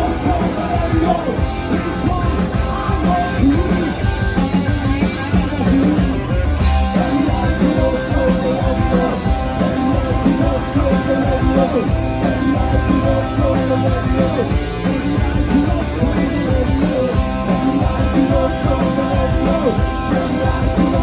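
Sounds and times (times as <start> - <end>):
electric guitar bending: 0.0 - 21.0
live rock band: 0.0 - 21.0.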